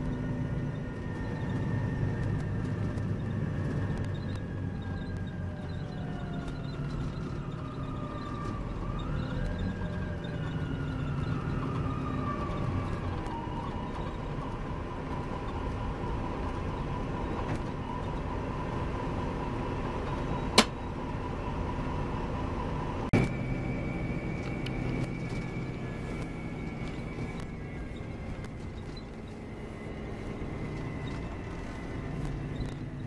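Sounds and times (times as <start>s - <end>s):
coach engine and road noise: 0.0s - 33.0s
whine: 0.0s - 33.0s.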